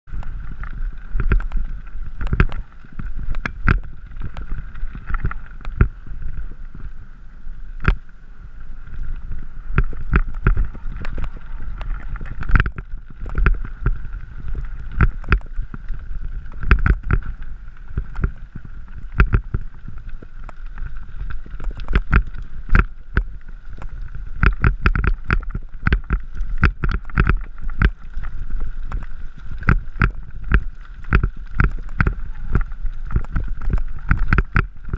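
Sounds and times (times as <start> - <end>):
wind rumbling on microphone: 0.0 - 34.9
bike rattling over gravel: 0.1 - 34.9.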